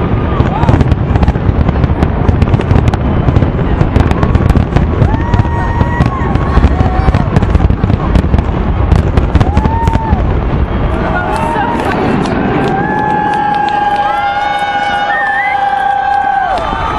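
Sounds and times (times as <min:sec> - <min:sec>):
fireworks bangs and crackling: 0:00.0 - 0:16.9
whistling fireworks: 0:00.0 - 0:16.9.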